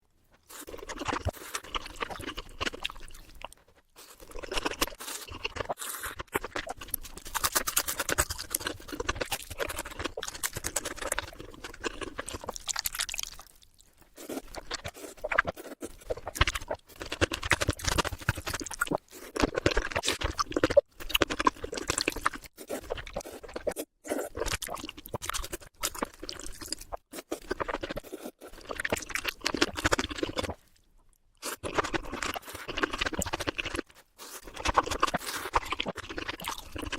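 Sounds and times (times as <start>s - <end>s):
chewing and crunching food: 0.0s - 36.9s.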